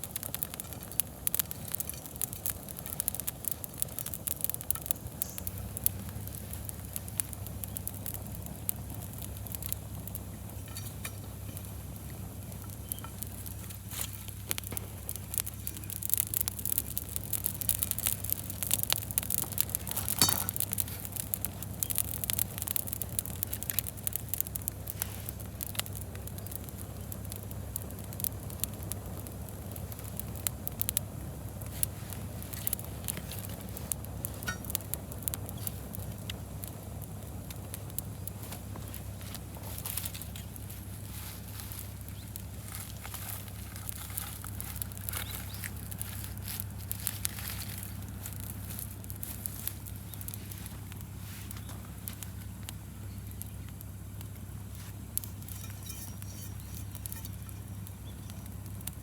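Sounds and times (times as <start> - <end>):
steady low hum: 0.0 - 59.0
wood fire crackling: 0.0 - 59.0.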